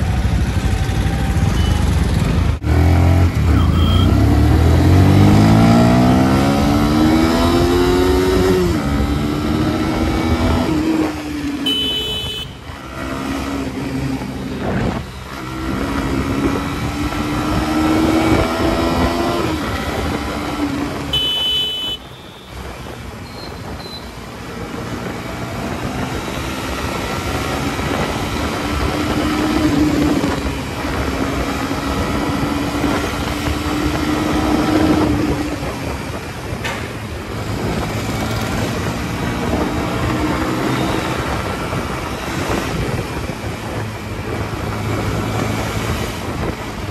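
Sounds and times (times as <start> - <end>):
road and wind noise: 0.0 - 46.9.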